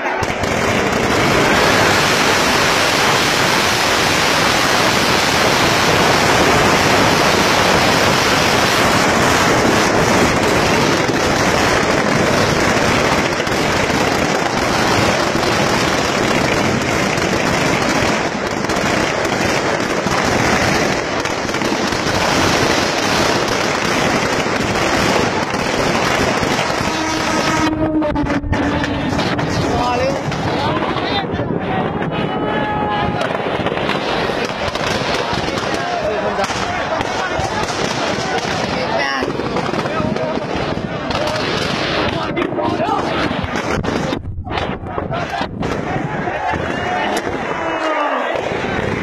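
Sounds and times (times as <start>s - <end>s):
firecrackers crackling and banging: 0.0s - 49.0s.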